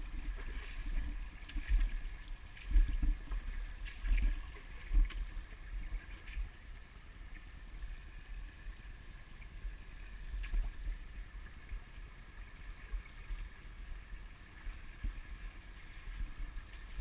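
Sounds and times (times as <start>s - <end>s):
gusty low rumble on microphone: 0.0s - 17.0s
rocky stream trickling: 0.0s - 17.0s.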